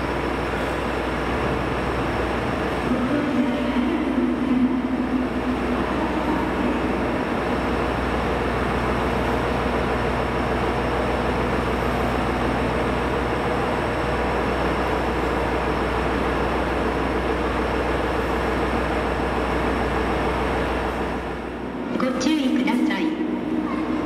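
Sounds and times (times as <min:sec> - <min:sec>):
low hum: 0:00.0 - 0:24.0
train running: 0:00.0 - 0:24.0.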